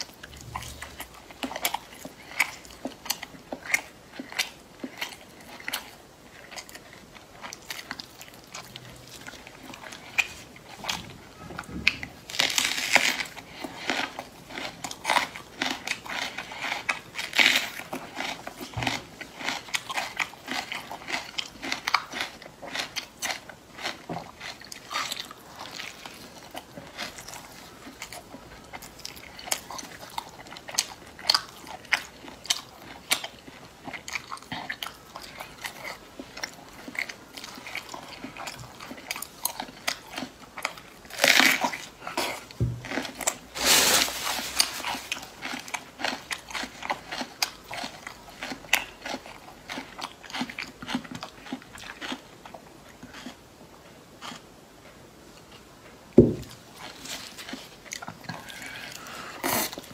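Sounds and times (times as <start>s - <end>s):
close crunching chewing: 0.0s - 55.7s, 56.4s - 59.9s.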